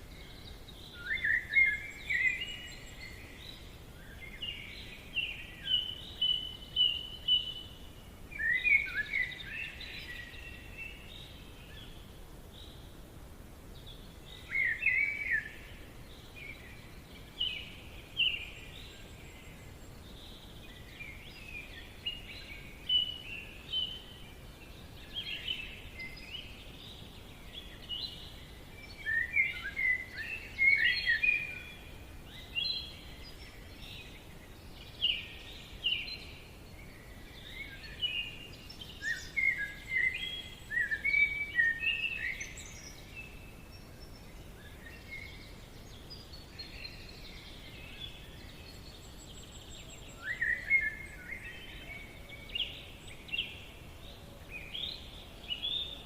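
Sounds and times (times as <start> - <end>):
faint steady hiss: 0.0 - 56.0
songbirds chirping: 0.0 - 56.0.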